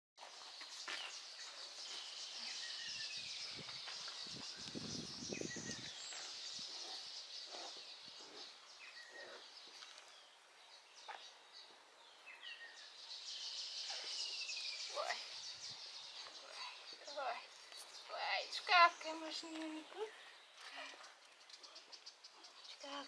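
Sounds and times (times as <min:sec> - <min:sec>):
birds chirping: 0:00.2 - 0:23.0.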